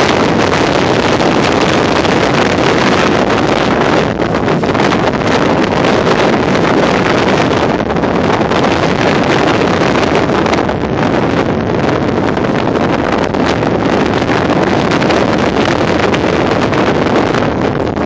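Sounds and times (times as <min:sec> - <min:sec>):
strong wind on microphone: 0:00.0 - 0:18.0.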